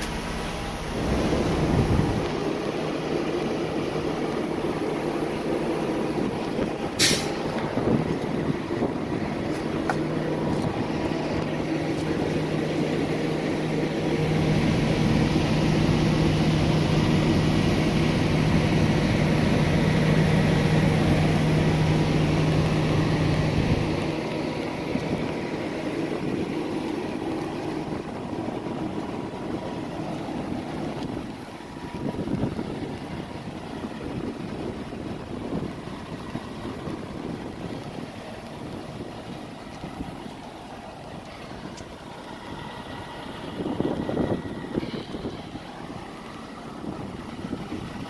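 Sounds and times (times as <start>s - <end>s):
diesel truck engine idling: 0.0s - 48.0s.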